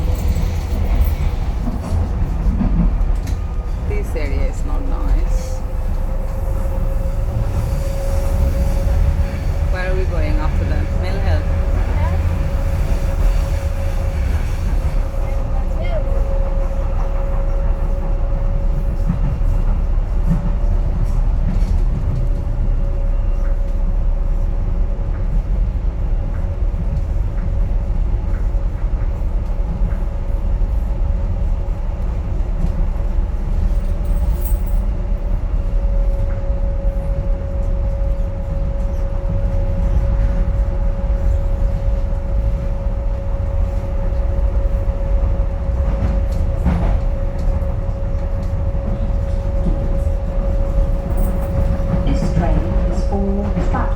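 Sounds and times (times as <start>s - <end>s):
train rumbling inside carriage: 0.0s - 53.9s.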